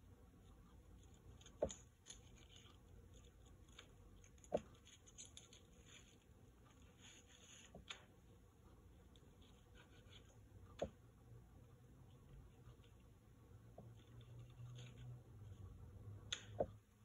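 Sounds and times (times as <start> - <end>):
soft handling noises: 0.3 - 17.0.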